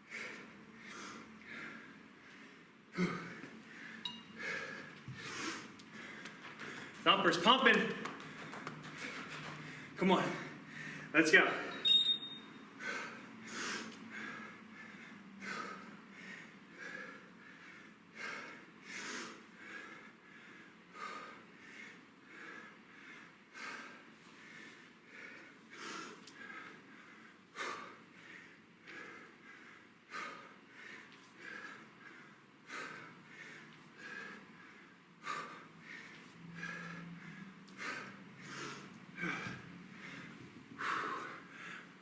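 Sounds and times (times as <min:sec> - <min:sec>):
man breathing hard: 0:00.0 - 0:07.0, 0:08.0 - 0:11.8, 0:12.6 - 0:42.0.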